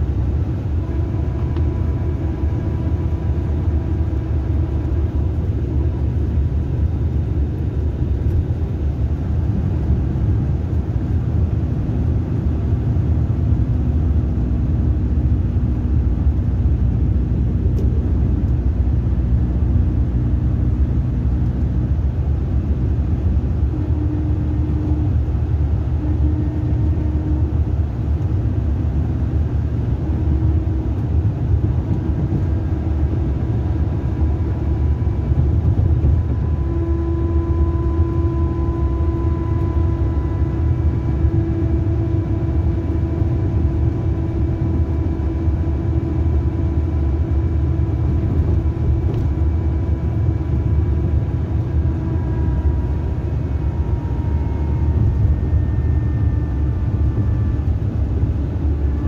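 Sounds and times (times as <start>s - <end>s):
droning tone: 0.0s - 7.2s, 7.8s - 59.0s
coach engine rumbling: 0.0s - 59.0s.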